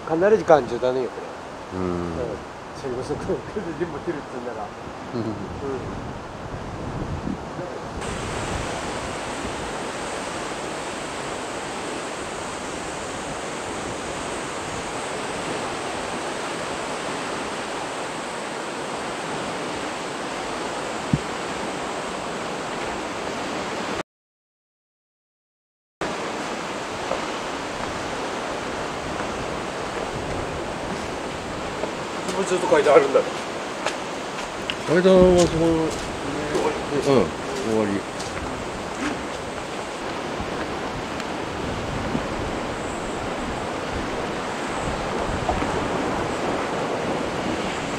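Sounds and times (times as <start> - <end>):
water rushing: 0.0 - 24.0, 26.0 - 47.9.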